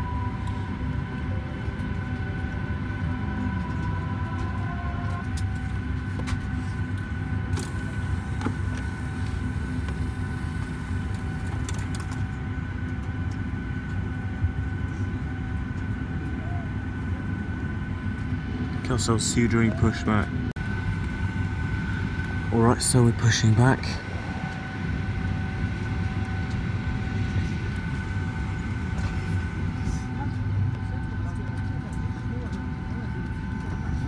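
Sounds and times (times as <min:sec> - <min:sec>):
low cabin hum: 0:00.0 - 0:34.0
thin steady whine: 0:00.0 - 0:34.0.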